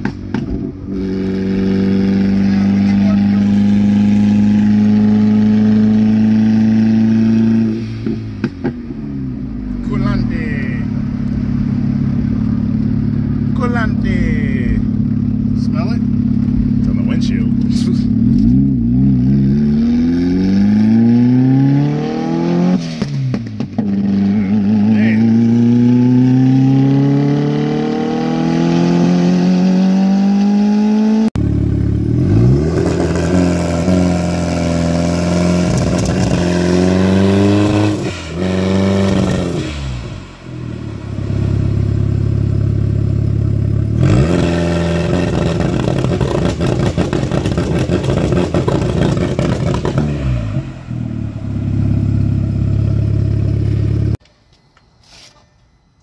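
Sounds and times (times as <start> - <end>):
car engine accelerating: 0.0 - 54.2
engine revving: 0.0 - 54.2.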